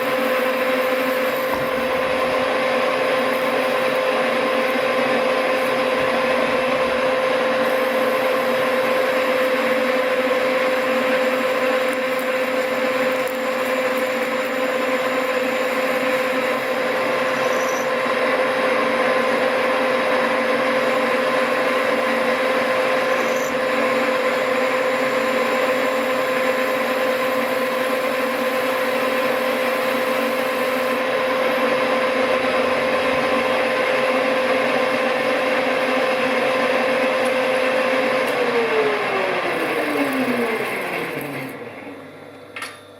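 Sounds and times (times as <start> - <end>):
metal lathe running: 0.0 - 42.8
constant machine whine: 0.0 - 42.9.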